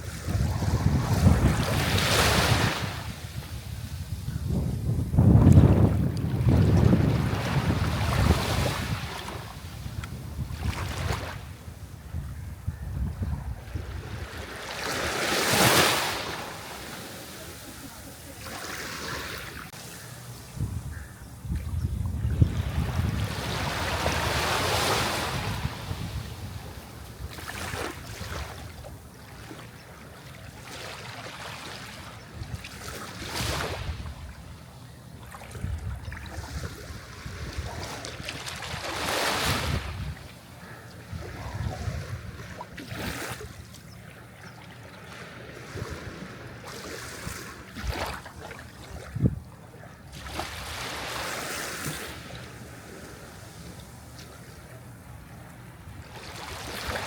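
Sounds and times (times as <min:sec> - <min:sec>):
sea waves breaking: 0:05.2 - 0:11.7, 0:13.6 - 0:20.6, 0:22.4 - 0:34.1, 0:36.3 - 0:57.0.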